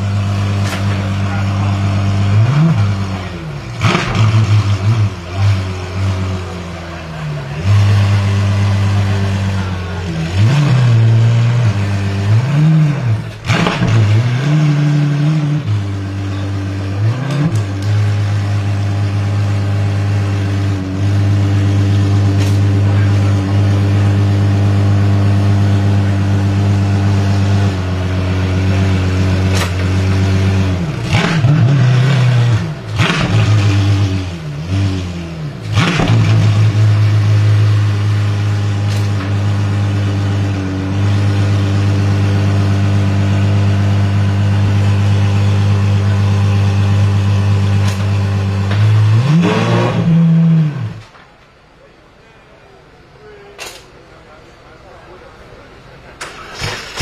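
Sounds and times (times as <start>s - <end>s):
car engine revving: 0.0s - 51.2s, 56.1s - 57.0s.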